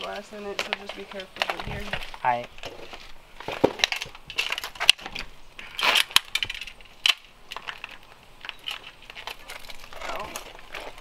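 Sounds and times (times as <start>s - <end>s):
debris crunching underfoot: 0.0s - 11.0s.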